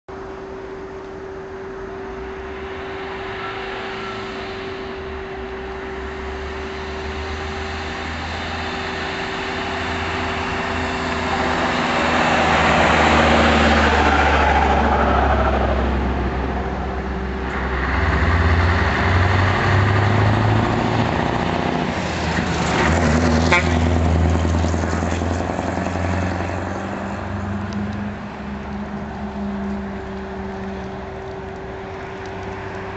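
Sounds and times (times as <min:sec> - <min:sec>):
diesel truck engine droning: 0:00.1 - 0:32.9.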